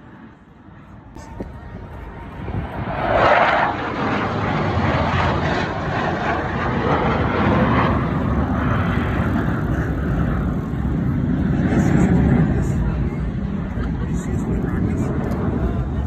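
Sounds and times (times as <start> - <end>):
fighter jets passing overhead: 0.0 - 16.0.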